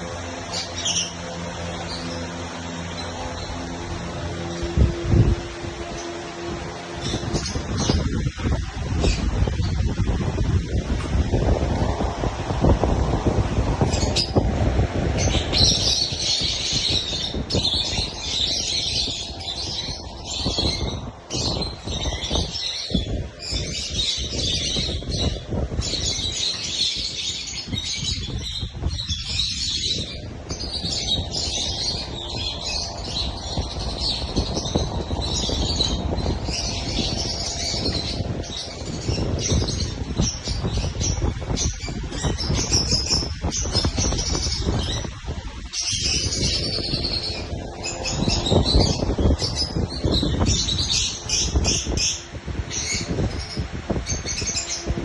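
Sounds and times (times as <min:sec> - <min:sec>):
lovebirds chirping: 0:00.0 - 0:55.0
low steady rumble: 0:00.0 - 0:55.0.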